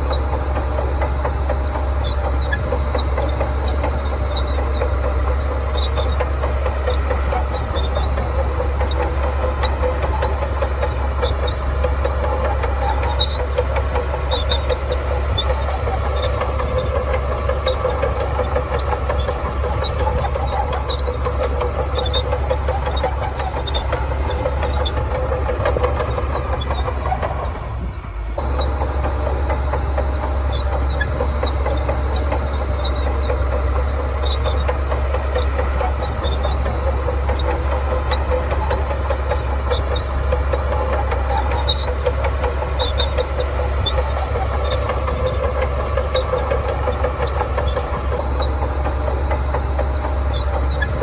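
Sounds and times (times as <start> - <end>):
bulldozer diesel engine rumbling: 0.0 - 51.0.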